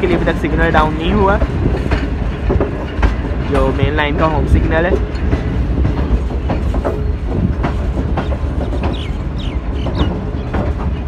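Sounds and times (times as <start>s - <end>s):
train wheels rumbling on track: 0.0s - 11.0s
wheels clicking over rail joints: 0.0s - 11.0s.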